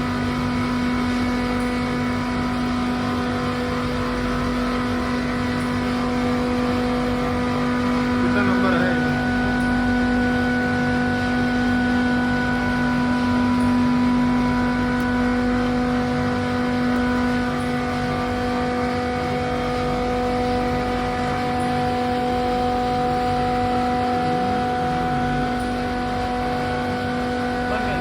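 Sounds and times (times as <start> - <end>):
compressor electrical hum: 0.0 - 28.0.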